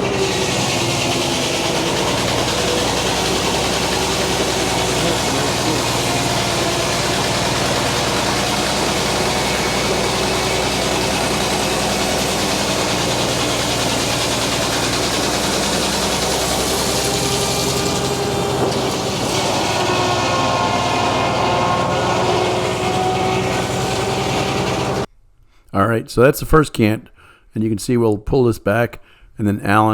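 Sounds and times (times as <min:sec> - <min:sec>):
circular saw blade sawing log: 0:00.0 - 0:25.1
sawmill drive running: 0:00.0 - 0:25.1.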